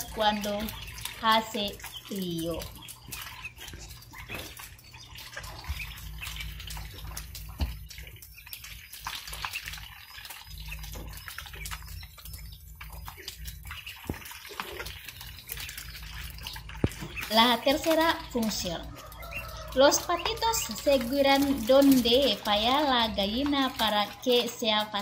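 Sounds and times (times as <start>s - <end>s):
water splashing and dripping: 0.0s - 25.0s.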